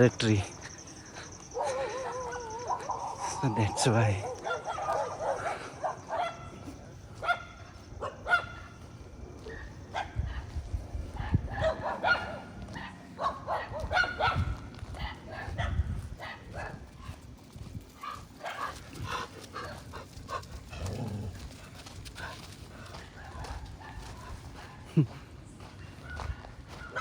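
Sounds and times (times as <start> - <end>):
dogs barking: 0.0 - 27.0.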